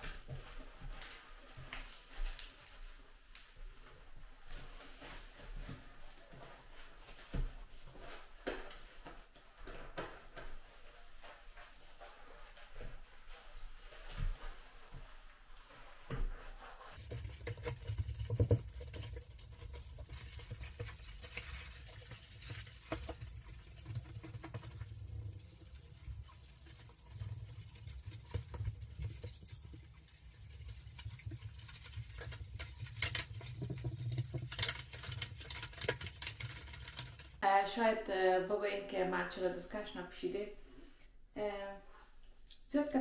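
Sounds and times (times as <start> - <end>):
sponge scrubbing a sink: 0.0 - 37.4.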